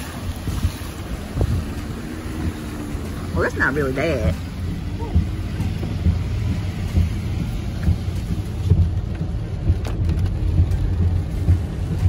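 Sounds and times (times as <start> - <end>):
car road rumble from inside: 0.0 - 12.0
small thumps and bumps: 0.4 - 12.0.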